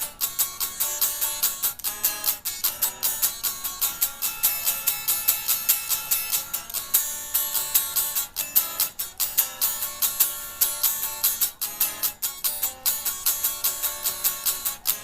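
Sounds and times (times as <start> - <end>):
guitar strumming chords: 0.0 - 15.0.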